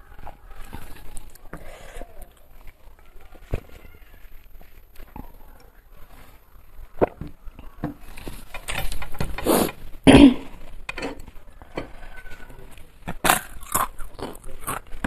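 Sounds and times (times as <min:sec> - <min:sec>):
crunching and chewing: 0:00.0 - 0:06.4, 0:07.0 - 0:15.0.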